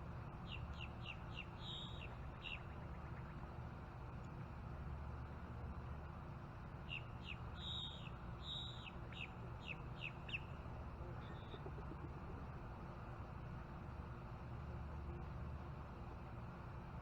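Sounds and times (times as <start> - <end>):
steady low background noise: 0.0 - 17.0.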